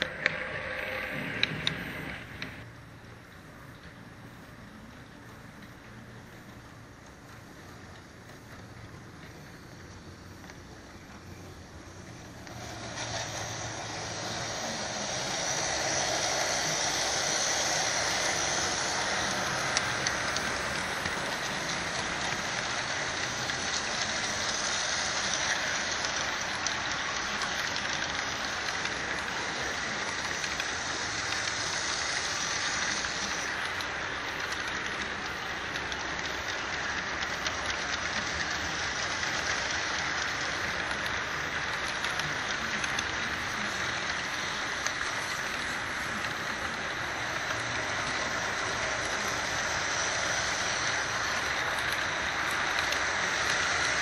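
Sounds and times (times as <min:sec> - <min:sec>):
model train cars rolling on rails: 0:00.0 - 0:54.0.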